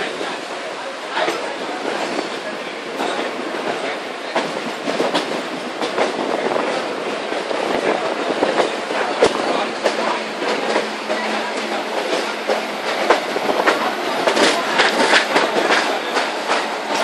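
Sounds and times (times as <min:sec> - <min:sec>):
train wheels rumbling: 0:00.0 - 0:17.0
wheels clacking over rail joints: 0:03.0 - 0:17.0.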